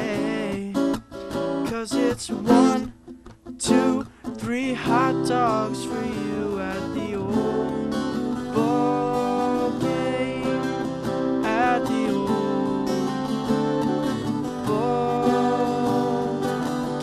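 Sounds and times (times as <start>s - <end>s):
man singing: 0.0s - 1.0s, 1.6s - 17.0s
acoustic guitar strumming chords: 0.0s - 17.0s.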